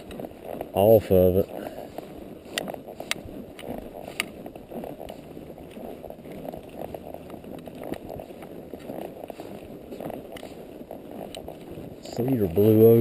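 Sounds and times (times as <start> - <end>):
hooves clopping on stones: 0.0 - 13.0.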